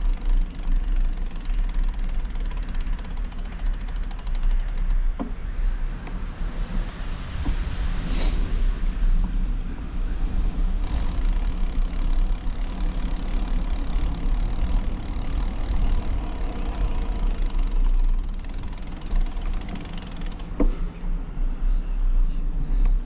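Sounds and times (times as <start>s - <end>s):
road and tyre noise: 0.0s - 23.0s.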